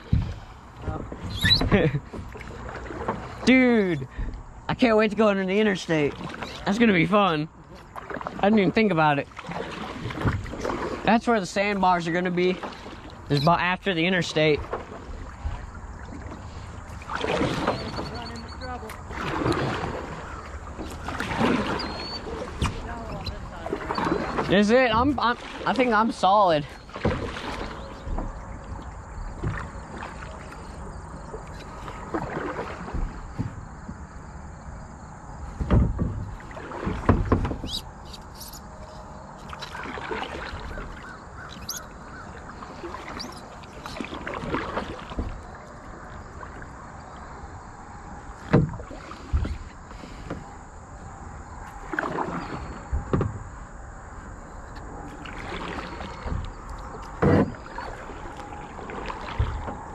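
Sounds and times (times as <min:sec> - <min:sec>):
paddle strokes splashing in water: 0:00.0 - 0:04.4, 0:05.6 - 0:34.8, 0:35.4 - 0:50.6, 0:51.2 - 0:59.9.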